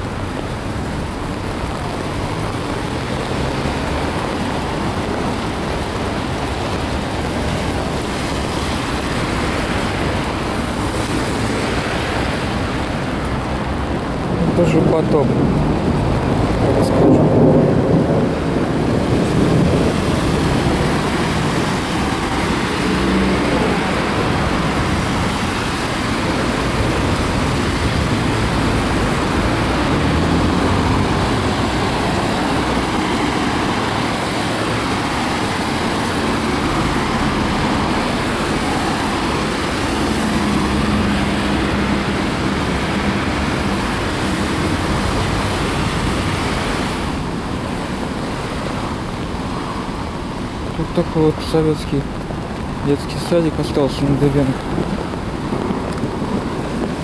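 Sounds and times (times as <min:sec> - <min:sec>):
cars passing: 0:00.0 - 0:57.0
tyres hissing on wet road: 0:00.0 - 0:57.0.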